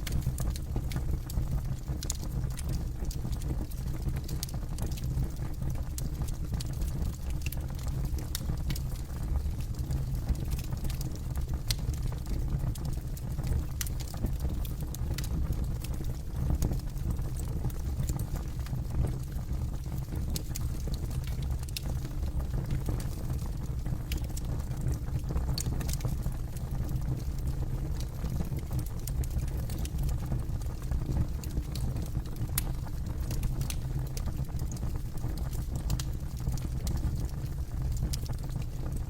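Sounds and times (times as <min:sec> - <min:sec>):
campfire low rumble: 0:00.0 - 0:39.0
fire crackles and pops: 0:00.0 - 0:39.0.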